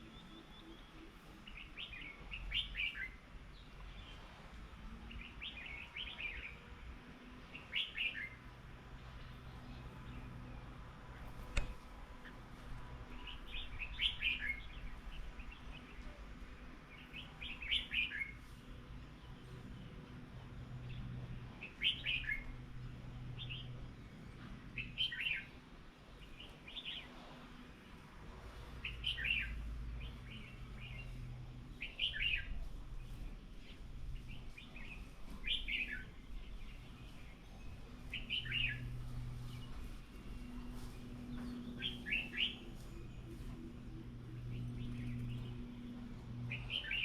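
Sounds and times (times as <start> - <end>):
small birds chirping: 0.0 - 6.7, 7.4 - 28.0, 28.8 - 47.0.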